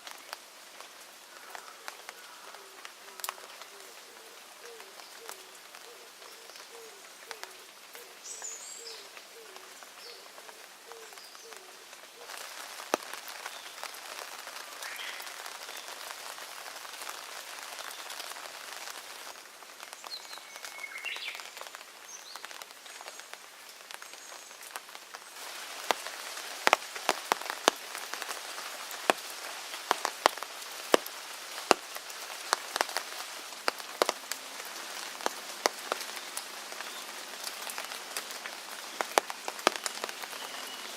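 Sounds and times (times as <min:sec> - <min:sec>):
large raindrops tapping: 0:00.0 - 0:40.9
steady rain falling: 0:00.0 - 0:40.9.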